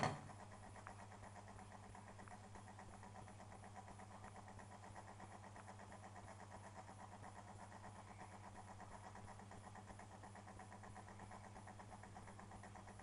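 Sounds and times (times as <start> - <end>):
washing machine humming: 0.0 - 13.0
faint rapid ticking: 0.2 - 13.0.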